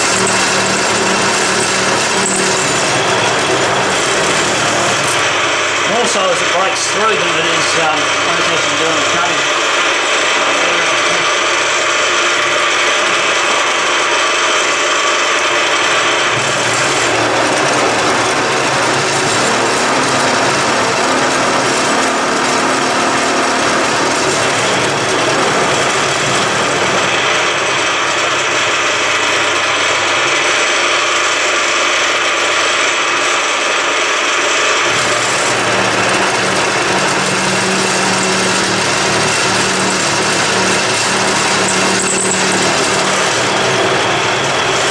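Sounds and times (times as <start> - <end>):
milling machine cutting metal: 0.0 - 44.9.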